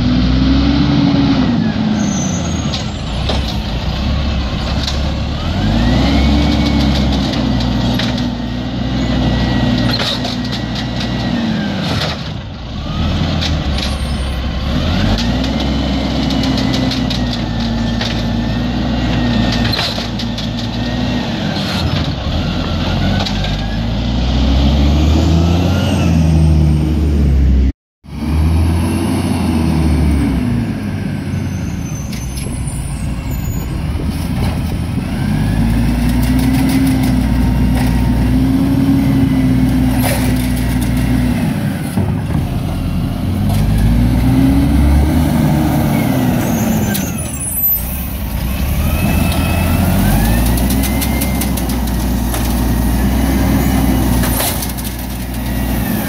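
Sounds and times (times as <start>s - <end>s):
truck engine revving: 0.0s - 56.0s
carts and garbage clattering: 2.0s - 23.8s, 30.8s - 56.0s.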